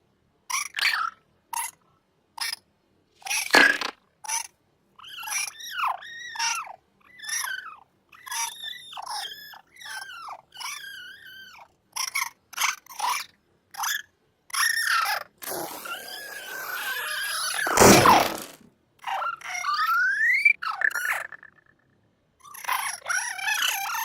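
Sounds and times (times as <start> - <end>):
high squeaky processed hiccups: 3.2 - 21.8, 22.4 - 24.0.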